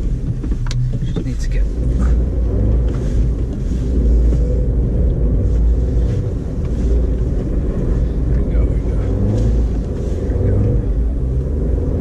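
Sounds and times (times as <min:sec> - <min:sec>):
car engine pulling: 0:00.0 - 0:12.0
low rumble inside car cabin: 0:00.0 - 0:12.0
tyres churning through snow: 0:00.0 - 0:12.0.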